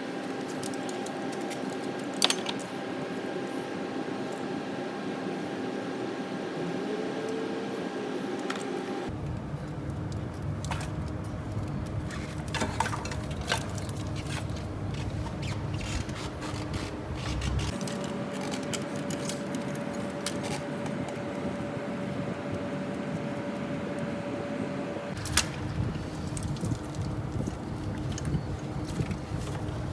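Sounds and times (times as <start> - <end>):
steady background hum: 0.0 - 29.9.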